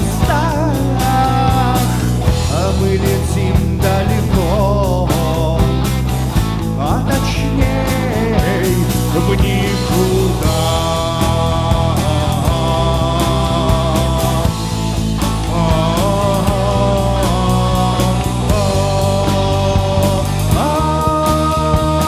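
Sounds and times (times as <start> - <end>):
bass: 0.0 - 22.0
steady drum beat: 0.0 - 22.0.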